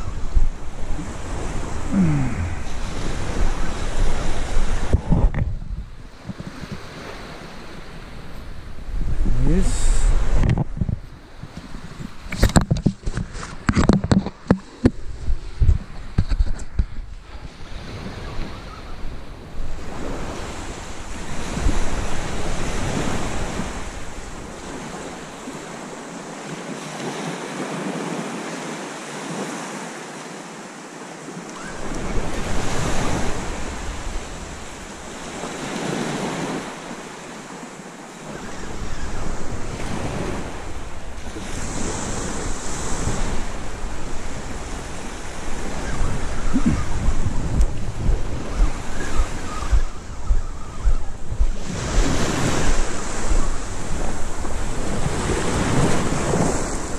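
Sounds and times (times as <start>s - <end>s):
wind rumbling on microphone: 0.0s - 28.2s, 31.4s - 56.9s
waves washing onto beach: 0.0s - 56.9s.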